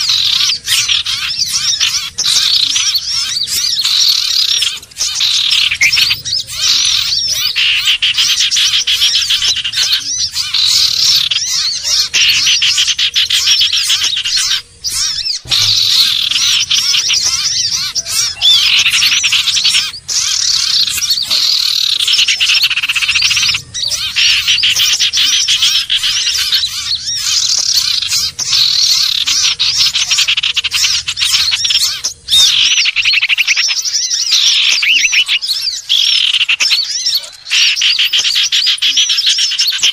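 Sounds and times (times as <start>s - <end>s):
bird chattering and trilling: 0.0s - 39.9s.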